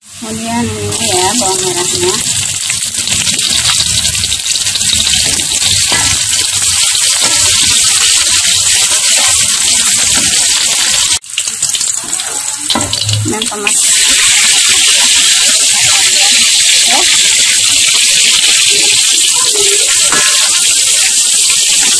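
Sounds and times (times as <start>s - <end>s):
vegetables sizzling in hot oil: 0.0s - 21.9s.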